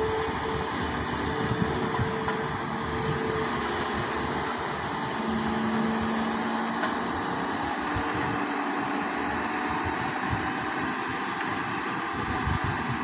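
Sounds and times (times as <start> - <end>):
wind buffeting microphone: 0.0 - 6.4, 7.4 - 13.0
excavator diesel engine running: 0.0 - 13.0.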